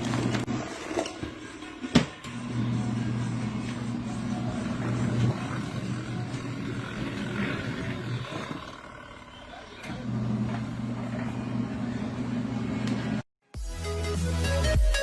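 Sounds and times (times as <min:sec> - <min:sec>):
washing machine motor humming: 0:00.0 - 0:13.2.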